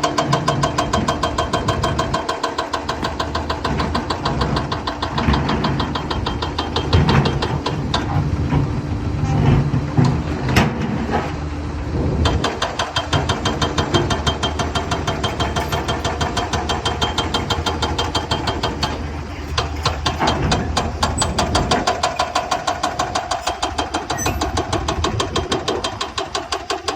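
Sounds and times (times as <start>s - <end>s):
excavator engine running: 0.0s - 26.9s
rapid engine clatter: 0.0s - 26.9s.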